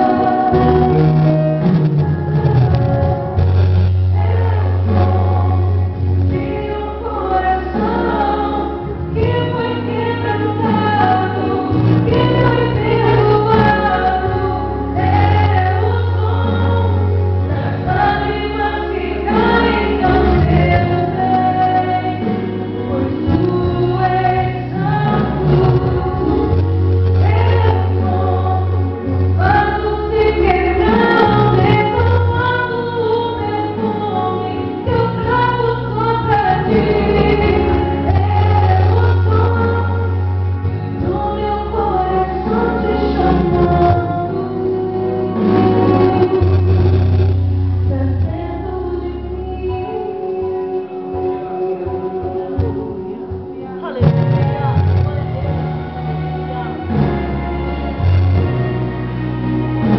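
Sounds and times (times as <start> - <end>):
woman singing gospel song: 0.0 - 58.1
choir-like backing vocals: 0.0 - 59.9
sustained bass notes: 0.0 - 59.9.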